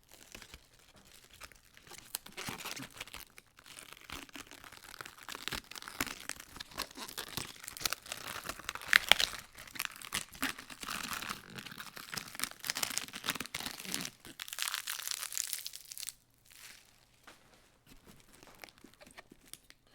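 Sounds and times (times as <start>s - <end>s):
lettuce leaves crinkling and tearing: 0.0s - 19.8s.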